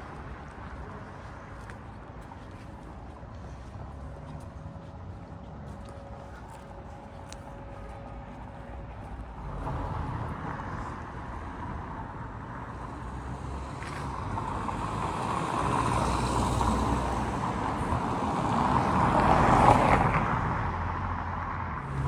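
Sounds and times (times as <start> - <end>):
road vehicle approaching: 0.0 - 22.0.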